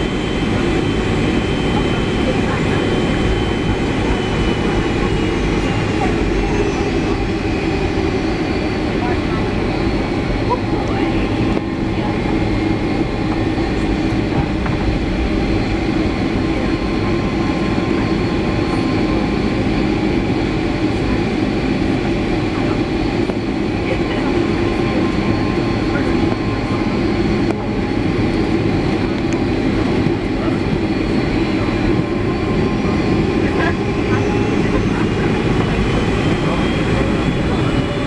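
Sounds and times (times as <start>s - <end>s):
jet engine hum: 0.0s - 38.0s.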